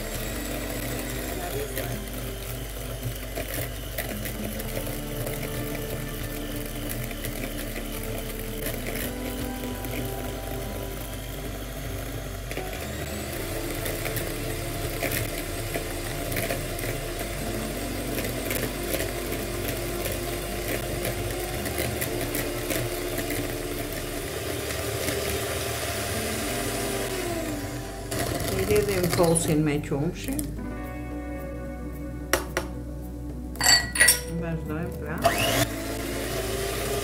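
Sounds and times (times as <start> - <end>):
electric hand mixer whisking batter: 0.0 - 30.6, 34.4 - 37.0.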